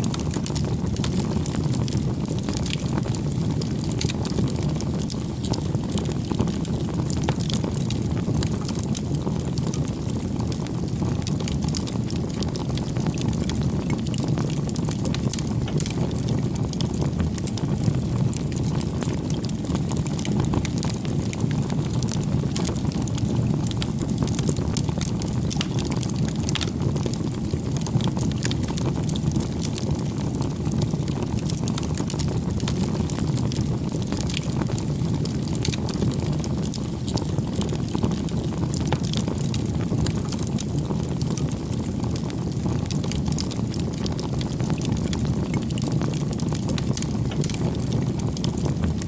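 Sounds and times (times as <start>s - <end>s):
fire crackles and pops: 0.0s - 49.0s.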